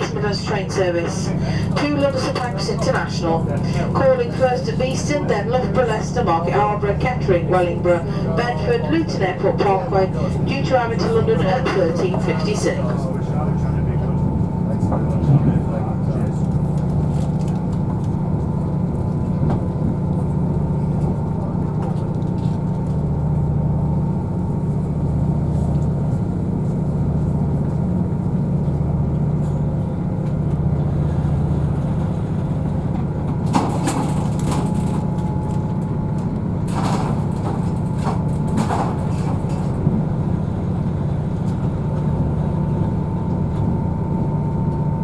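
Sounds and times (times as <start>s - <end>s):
train diesel engine drone: 0.0s - 45.0s.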